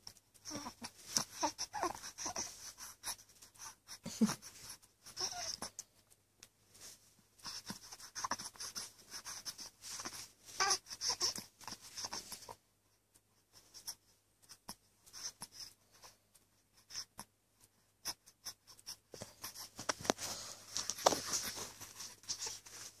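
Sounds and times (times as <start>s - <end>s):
rustling and scratching: 0.0s - 23.0s
baby breathy noises and squeaks: 0.4s - 5.8s, 7.4s - 12.6s, 13.6s - 16.1s, 16.8s - 17.3s, 18.0s - 23.0s.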